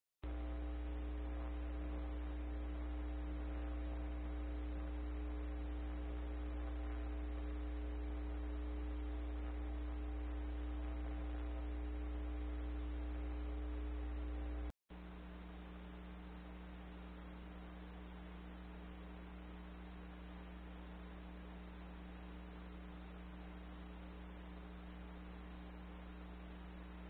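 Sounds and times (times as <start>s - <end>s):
electrical hum: 0.2s - 27.0s.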